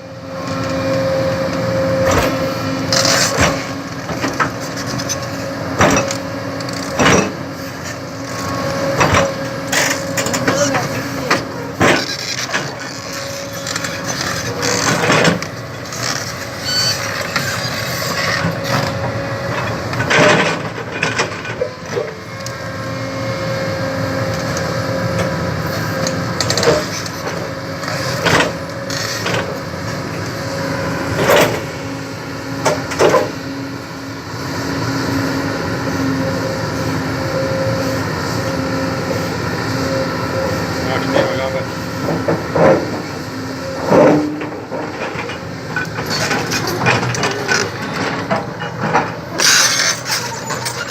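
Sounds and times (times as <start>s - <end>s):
heavy machine engine running: 0.0s - 50.9s.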